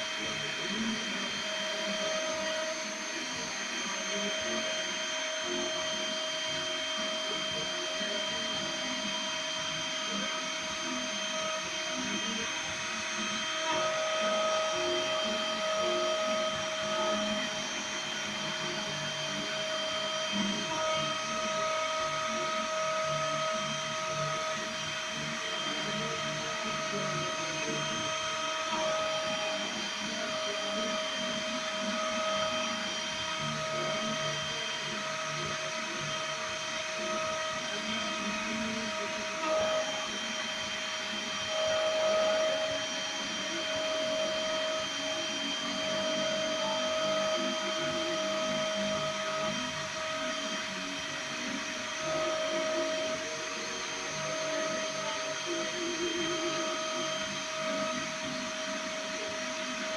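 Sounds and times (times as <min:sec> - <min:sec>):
cnc mill spindle whine: 0:00.0 - 0:59.9.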